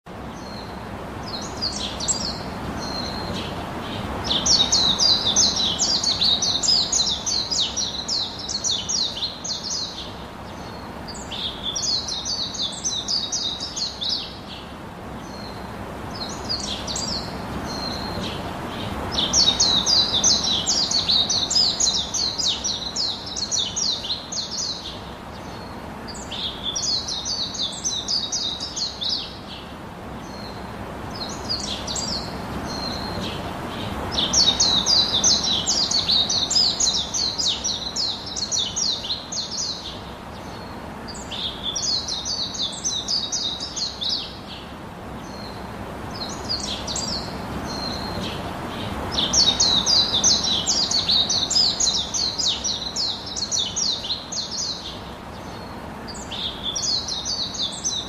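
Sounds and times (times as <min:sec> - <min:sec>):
songbird singing: 0:00.0 - 0:58.0
background hiss: 0:00.1 - 0:58.0.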